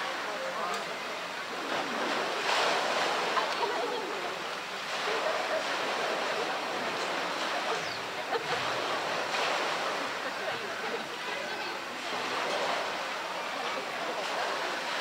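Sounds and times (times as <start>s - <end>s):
water sloshing and splashing: 0.0s - 15.0s.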